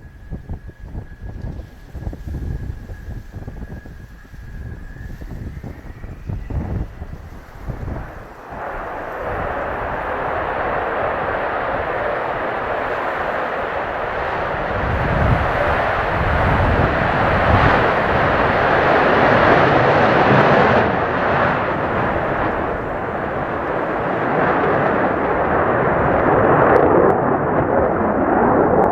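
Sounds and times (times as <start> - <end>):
jet aircraft engine: 0.0 - 28.9
wind buffeting microphone: 0.0 - 28.9.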